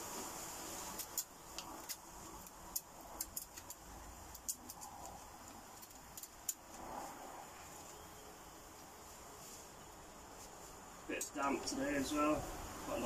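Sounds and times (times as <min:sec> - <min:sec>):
dry kindling crackling: 0:00.0 - 0:13.0
low outdoor background hiss: 0:00.0 - 0:13.0.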